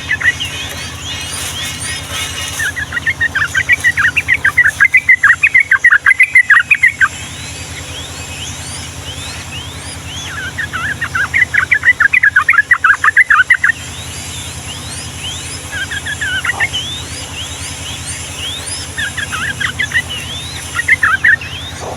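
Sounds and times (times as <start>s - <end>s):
bulbul warbling song: 0.0s - 21.9s
faint rising whistles: 0.0s - 21.9s
low steady hum: 0.0s - 21.9s.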